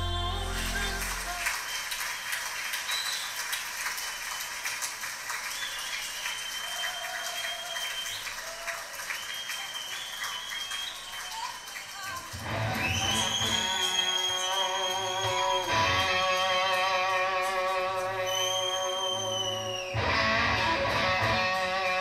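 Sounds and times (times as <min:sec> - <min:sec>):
audience applause over loudspeakers: 0:00.5 - 0:22.0.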